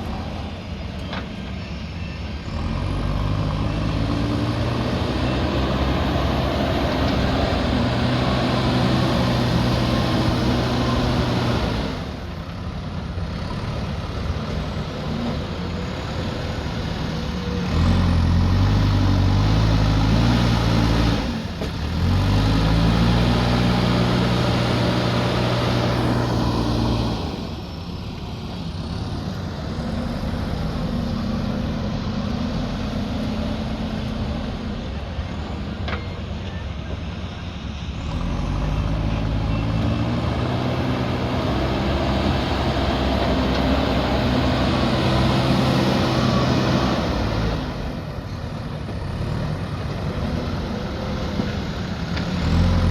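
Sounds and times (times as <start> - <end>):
earthmoving machine diesel engine: 0.0 - 52.9.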